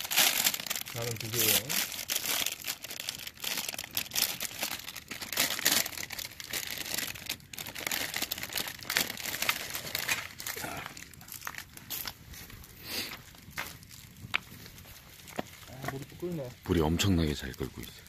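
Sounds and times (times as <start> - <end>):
plastic packets crinkling and tearing: 0.0 - 18.0.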